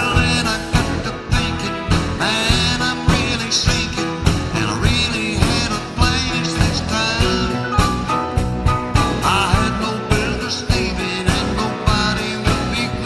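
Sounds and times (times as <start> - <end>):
country band playing live: 0.0 - 13.0.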